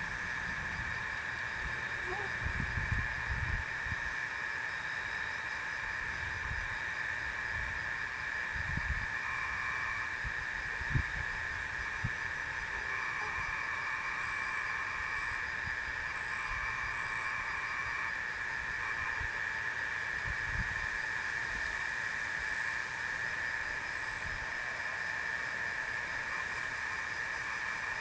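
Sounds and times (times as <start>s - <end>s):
night insects trilling: 0.0s - 28.0s.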